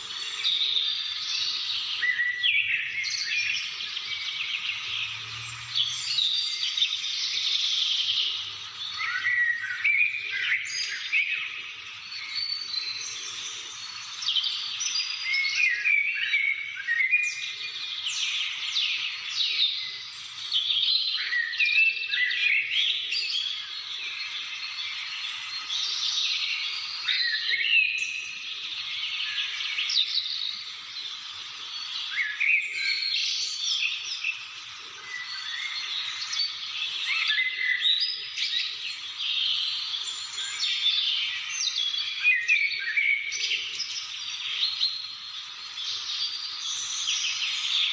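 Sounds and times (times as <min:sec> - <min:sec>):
chorus of birds singing: 0:00.0 - 0:47.9.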